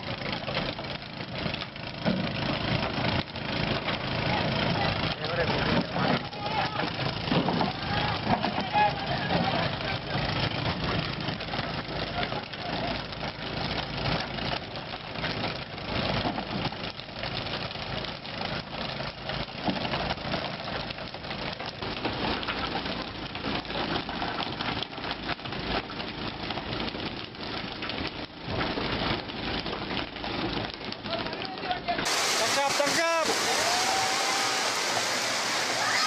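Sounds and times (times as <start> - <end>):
boat engine running: 0.0 - 36.0
churning water: 0.0 - 36.0.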